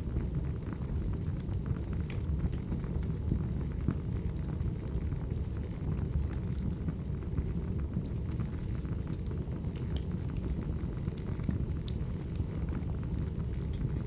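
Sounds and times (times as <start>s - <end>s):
fire crackles and pops: 0.0s - 14.0s
roar of burning firewood: 0.0s - 14.0s.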